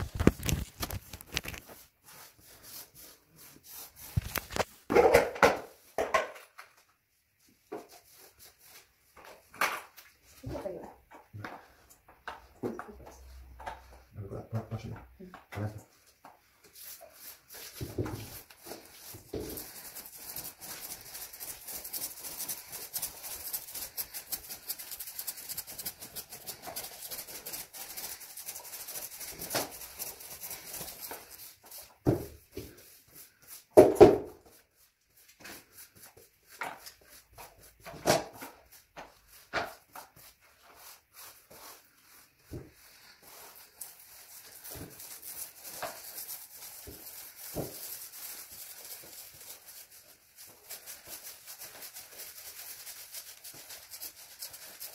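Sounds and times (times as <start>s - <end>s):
paintbrush scratching on wall: 0.0s - 5.0s, 7.4s - 9.4s, 15.6s - 54.9s.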